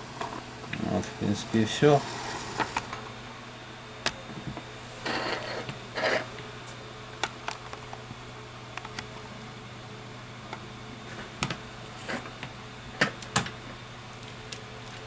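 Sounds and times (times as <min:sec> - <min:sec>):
low hum of bench equipment: 0:00.0 - 0:15.0.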